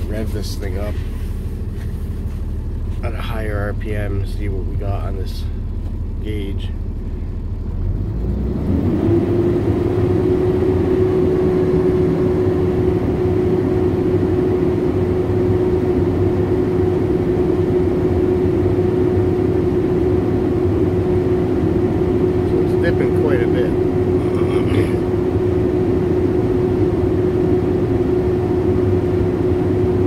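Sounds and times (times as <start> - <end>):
diesel engine revving: 0.0 - 30.0
steady whine: 0.0 - 30.0.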